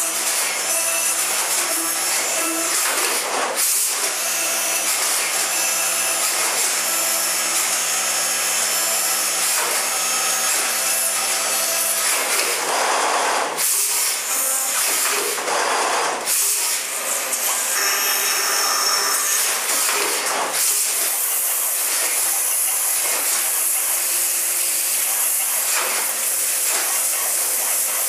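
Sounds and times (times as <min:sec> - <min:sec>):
machine spindle whine: 0:00.0 - 0:28.0.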